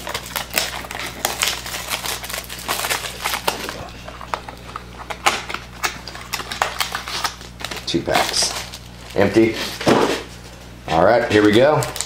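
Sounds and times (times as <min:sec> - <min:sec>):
card stock rustling: 0:00.0 - 0:12.0
plastic wrap crinkling: 0:00.0 - 0:12.0.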